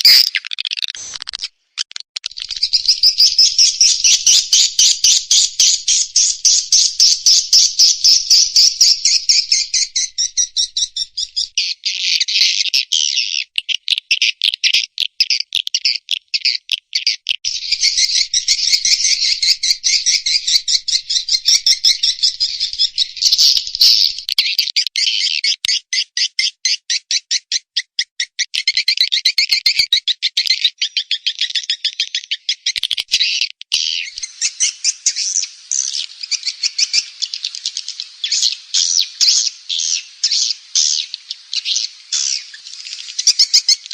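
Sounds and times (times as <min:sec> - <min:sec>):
high-pitched chirring bird twitters: 0:00.0 - 0:25.9, 0:28.6 - 0:43.9
rapid clicking bird chirps: 0:00.0 - 0:43.9.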